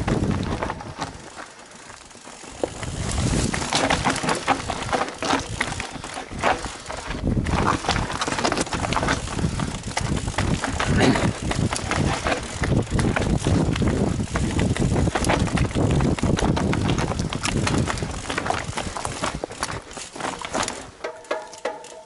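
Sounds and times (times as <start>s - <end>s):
wind rumble on microphone: 0.0s - 1.2s, 2.6s - 19.9s
mountain bike rattling over rocks: 0.0s - 22.0s.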